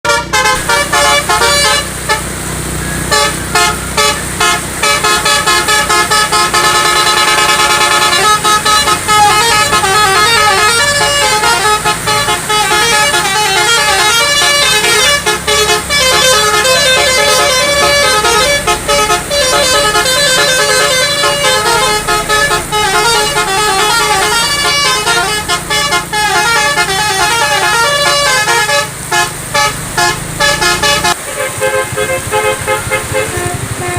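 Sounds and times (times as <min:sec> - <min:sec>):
multi-tone bus horn tune: 0:00.0 - 0:33.9.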